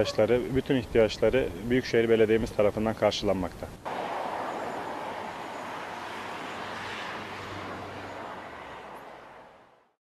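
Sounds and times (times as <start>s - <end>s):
continuous rushing hiss: 0.0s - 9.9s.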